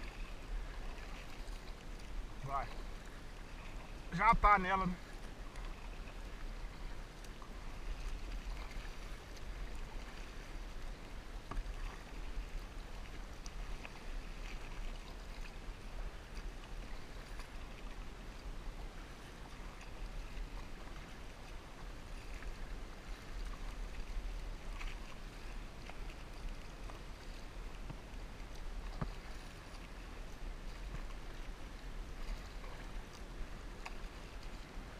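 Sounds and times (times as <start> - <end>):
paddle dipping through water: 0.0 - 34.9
water washing along hull: 0.0 - 34.9.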